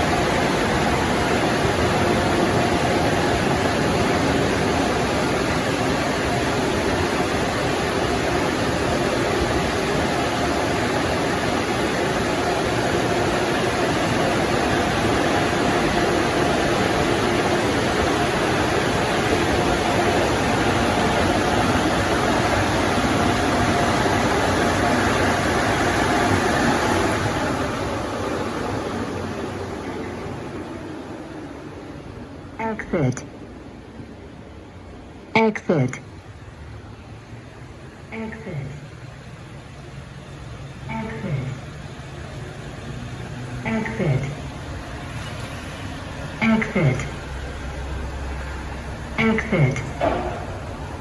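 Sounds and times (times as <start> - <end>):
car wash dryer blowers rushing air: 0.0 - 35.4, 36.1 - 51.0
faint whine: 0.0 - 51.0.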